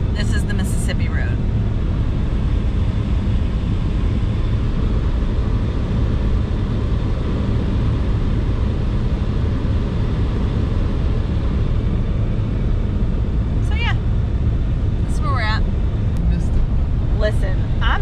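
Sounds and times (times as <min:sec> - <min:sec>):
truck cabin road and engine drone: 0:00.0 - 0:18.0.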